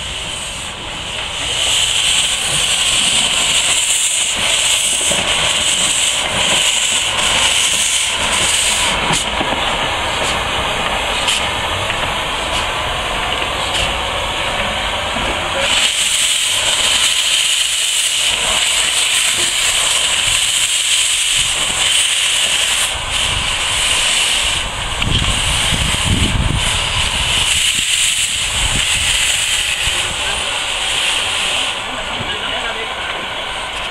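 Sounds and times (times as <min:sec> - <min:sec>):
steam locomotive hissing: 0:00.0 - 0:33.9.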